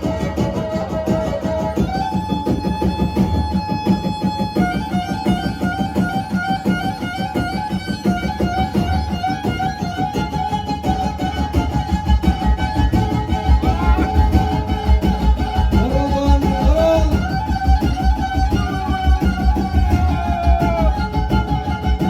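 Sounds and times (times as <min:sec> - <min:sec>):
bowed fiddle melody: 0:00.0 - 0:22.0.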